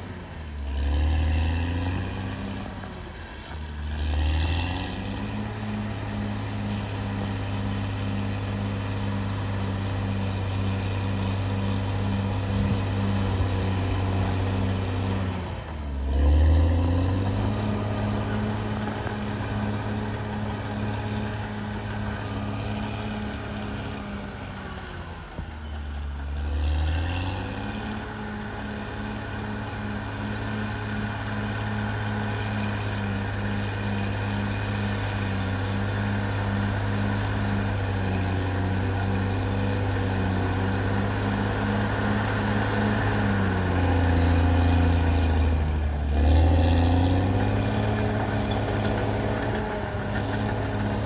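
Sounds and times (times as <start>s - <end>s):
bulldozer diesel engine under load: 0.0s - 51.0s.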